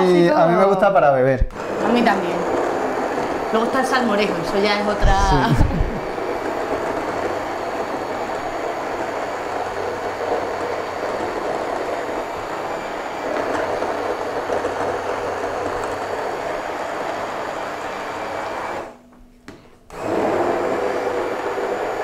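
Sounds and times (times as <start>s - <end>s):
immersion blender running: 1.5s - 19.0s, 19.9s - 22.0s.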